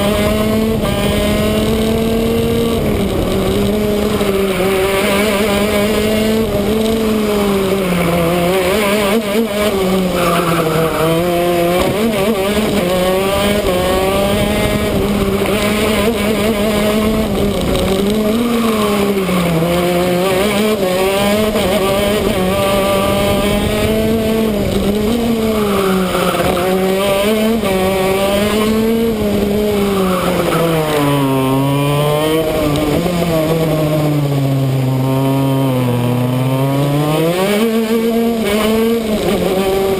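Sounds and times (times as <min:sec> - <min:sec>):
two-stroke kart engine racing: 0:00.0 - 0:39.9.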